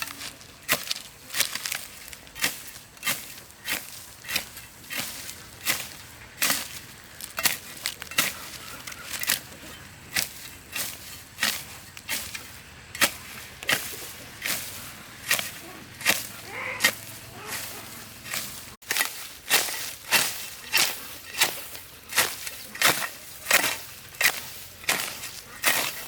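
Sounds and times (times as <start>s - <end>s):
hand tool chopping: 0.0s - 26.0s.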